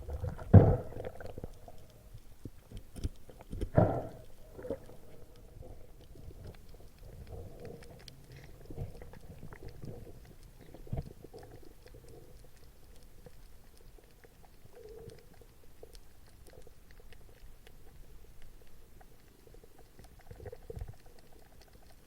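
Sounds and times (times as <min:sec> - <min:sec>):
underwater crackling clicks: 0:00.0 - 0:22.0.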